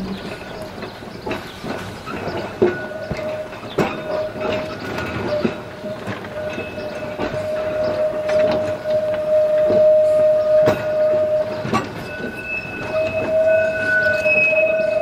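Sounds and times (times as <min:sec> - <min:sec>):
tram motor whine: 0:00.0 - 0:15.0
wheels clicking over rail joints: 0:00.0 - 0:15.0.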